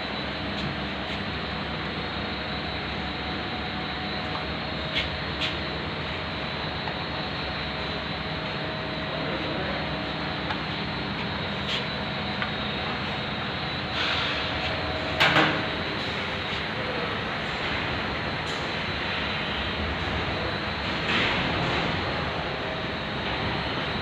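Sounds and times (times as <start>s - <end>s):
industrial machinery drone: 0.0s - 24.0s.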